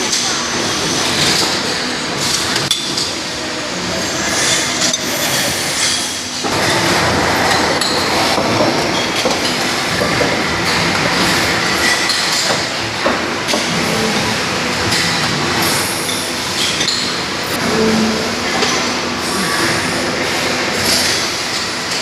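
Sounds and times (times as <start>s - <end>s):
industrial machinery clattering: 0.0s - 22.0s.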